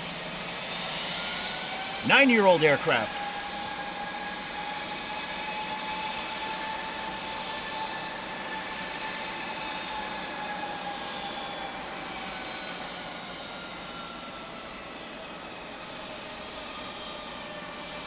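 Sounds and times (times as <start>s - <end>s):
jet engines taxiing: 0.0s - 18.0s.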